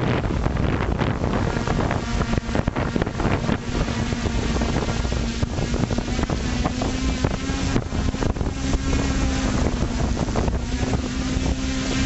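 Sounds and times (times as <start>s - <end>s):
drone motors humming: 0.0s - 12.0s
wind buffeting microphone: 0.0s - 12.0s.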